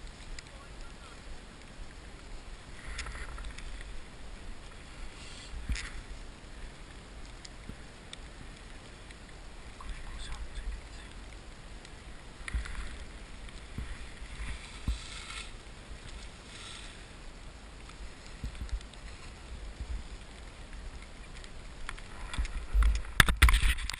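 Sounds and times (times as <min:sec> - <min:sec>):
skis scraping through snow: 0:02.0 - 0:11.2, 0:11.9 - 0:22.8.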